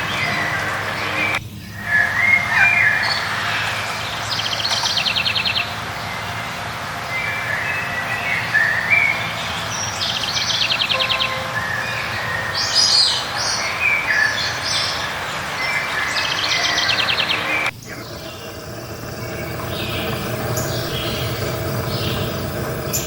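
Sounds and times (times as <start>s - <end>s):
bird trills: 0.0s - 6.4s, 7.0s - 23.0s
songbirds singing: 0.0s - 23.0s
steady background rush: 0.0s - 23.0s.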